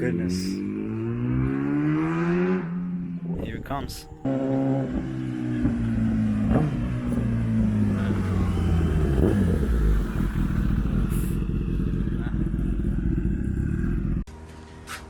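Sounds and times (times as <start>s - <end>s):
vehicle engine passing by: 0.0s - 14.3s.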